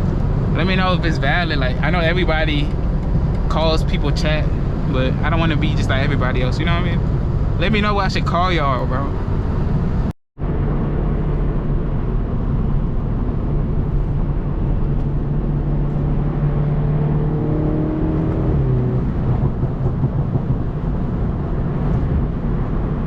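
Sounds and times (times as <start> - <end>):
car engine cruising: 0.0 - 23.0
tyres droning on highway: 0.0 - 23.0.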